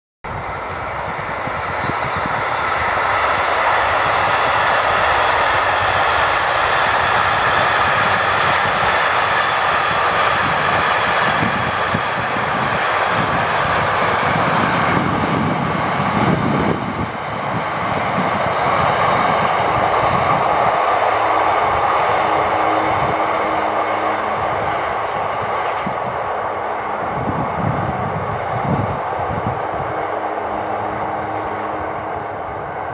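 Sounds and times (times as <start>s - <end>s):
steel wheels rolling on rails: 0.3s - 32.9s.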